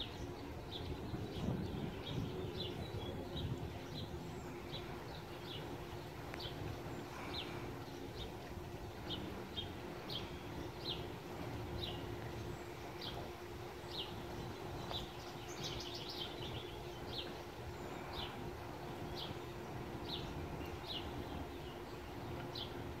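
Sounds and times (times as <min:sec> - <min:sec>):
bird chirping: 0:00.0 - 0:22.8
steady low hum: 0:00.0 - 0:23.0.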